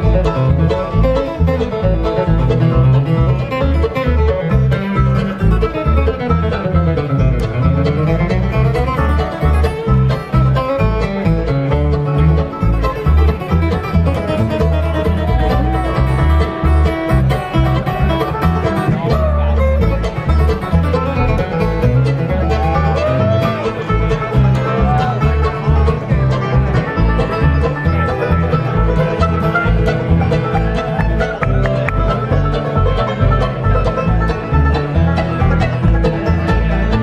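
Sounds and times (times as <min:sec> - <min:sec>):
acoustic guitar flatpicking: 0:00.0 - 0:37.0
banjo: 0:00.0 - 0:37.0
low bass notes: 0:00.0 - 0:37.0.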